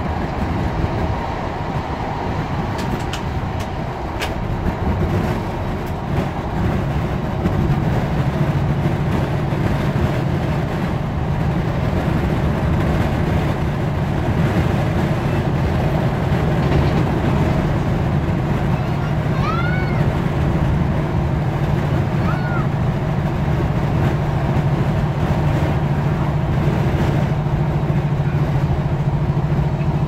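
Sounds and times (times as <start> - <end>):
train diesel engine drone: 0.0 - 30.0
wheels rumbling on rail: 0.0 - 30.0.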